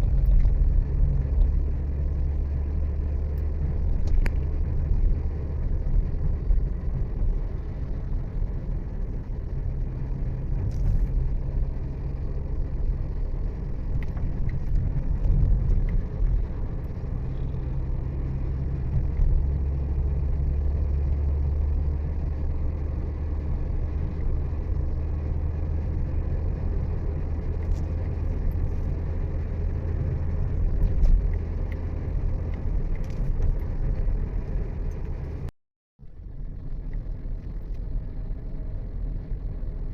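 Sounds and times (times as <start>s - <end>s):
road vehicle rumbling: 0.0s - 39.9s.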